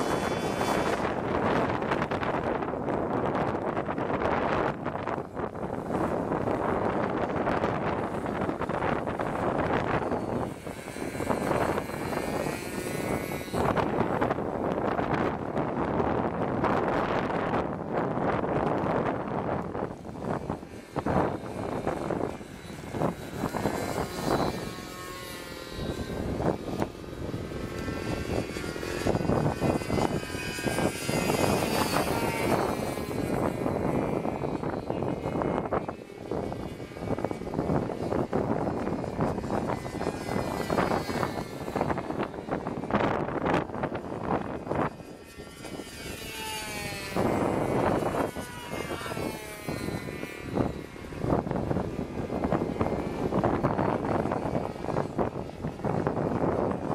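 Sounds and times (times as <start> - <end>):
model airplane motor whine: 0.0 - 56.9
wind buffeting microphone: 0.0 - 56.9.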